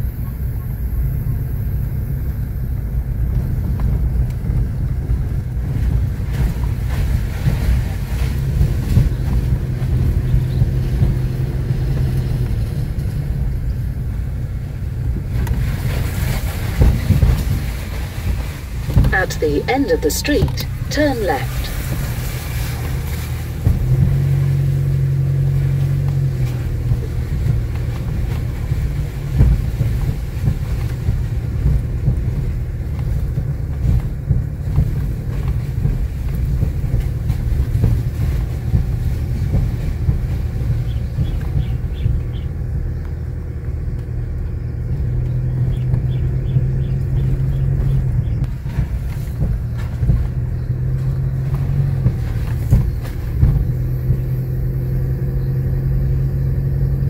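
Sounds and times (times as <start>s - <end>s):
car engine hum: 0.0s - 57.0s
tyres rumbling on dirt road: 0.0s - 57.0s.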